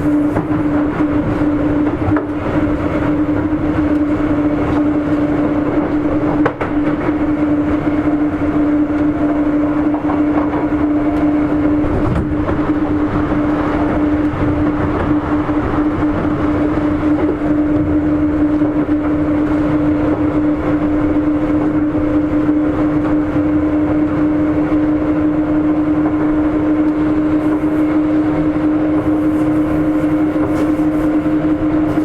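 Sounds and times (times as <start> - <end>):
steady train whine: 0.0 - 32.0
train wheels rumbling on track: 0.0 - 32.0.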